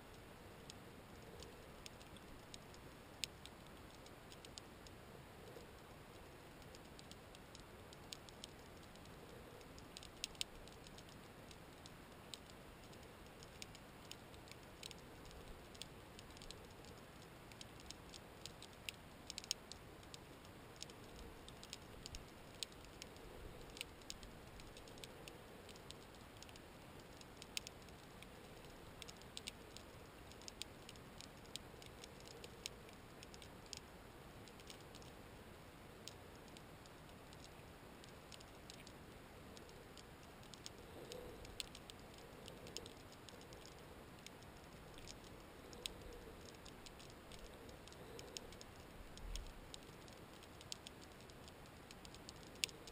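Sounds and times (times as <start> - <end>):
low hiss: 0.0 - 52.9
underwater crackling clicks: 0.1 - 35.2, 36.0 - 52.9.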